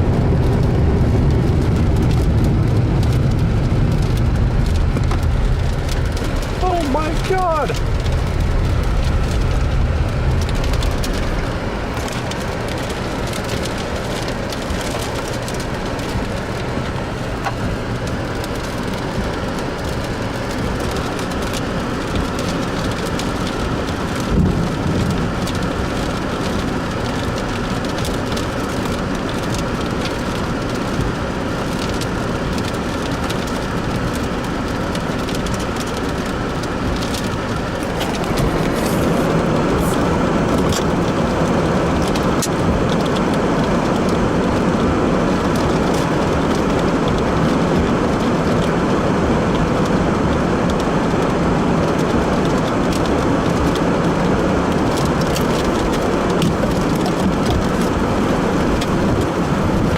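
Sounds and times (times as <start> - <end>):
heavy rain: 0.0 - 59.9
storm wind: 0.0 - 59.9.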